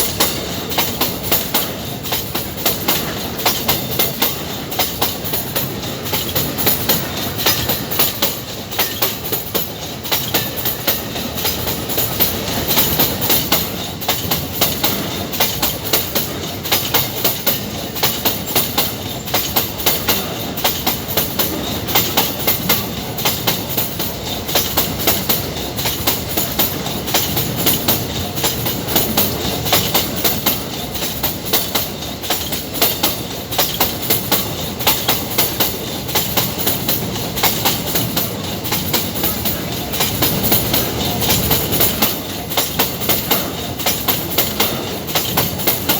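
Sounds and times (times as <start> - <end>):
train wheels clacking over rail joints: 0.0 - 45.9
wagons rumbling and rattling: 0.0 - 45.9.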